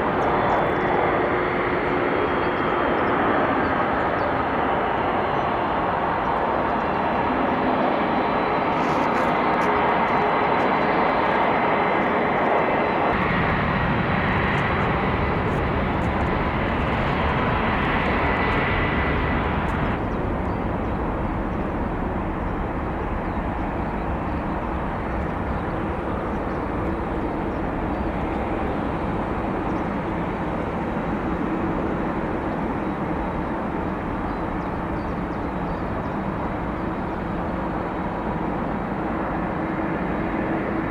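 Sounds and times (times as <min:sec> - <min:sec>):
jet engine rumble with whine: 0:00.0 - 0:40.9.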